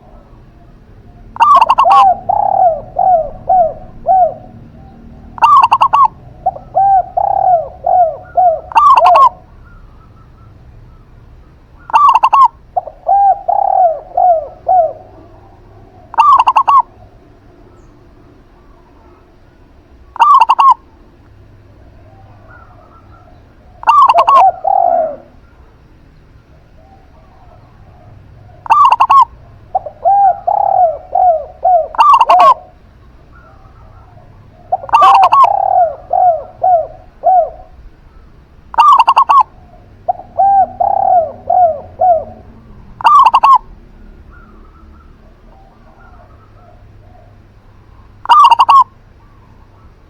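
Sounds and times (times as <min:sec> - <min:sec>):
loud high dove calls: 0:00.0 - 0:50.0
soft low dove coos: 0:00.0 - 0:50.0.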